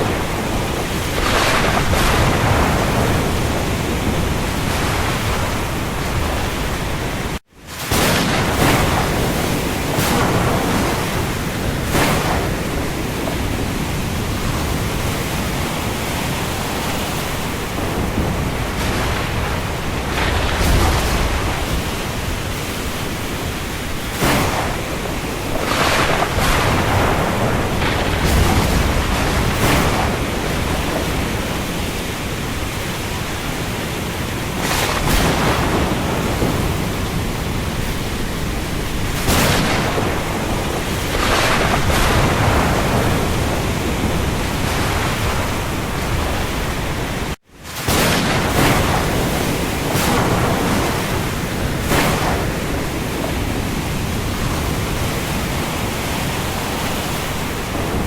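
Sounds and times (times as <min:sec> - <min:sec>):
heavy rain falling: 0:00.0 - 0:58.0
waves breaking: 0:00.0 - 0:58.0.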